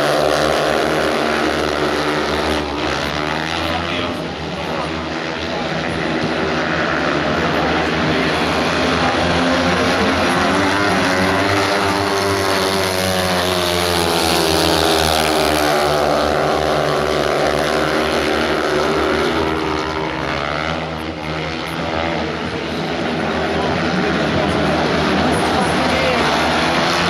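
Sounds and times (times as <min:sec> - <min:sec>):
motorcycle engines racing: 0:00.0 - 0:27.0.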